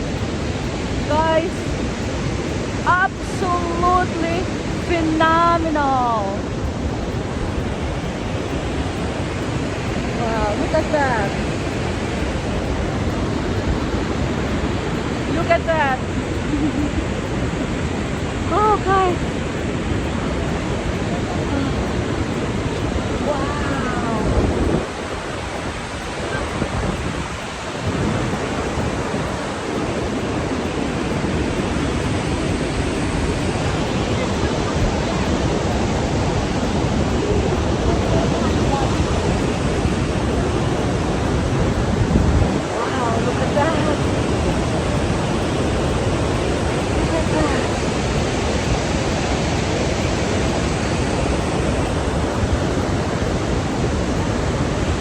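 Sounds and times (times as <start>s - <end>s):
waterfall rushing: 0.0s - 55.0s
wind buffeting microphone: 0.0s - 55.0s.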